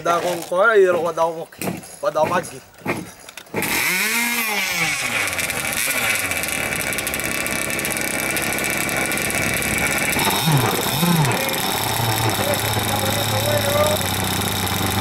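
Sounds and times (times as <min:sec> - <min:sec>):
small boat engine revving: 0:01.6 - 0:15.0.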